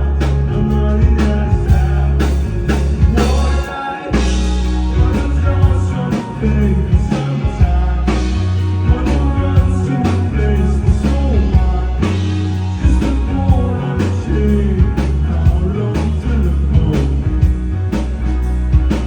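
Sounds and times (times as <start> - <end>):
person singing: 0.0 - 17.2
live rock band playing: 0.0 - 19.0.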